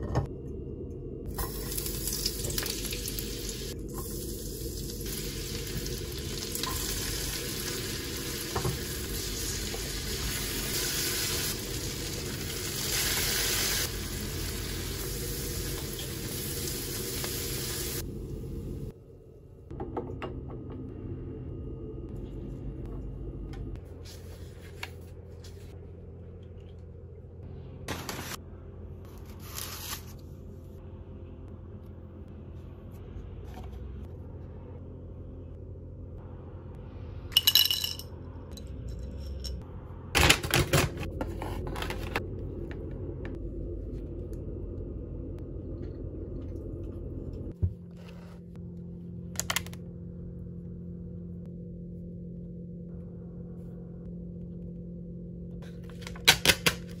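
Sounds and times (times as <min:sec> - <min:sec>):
low room hum: 0:00.0 - 0:57.0.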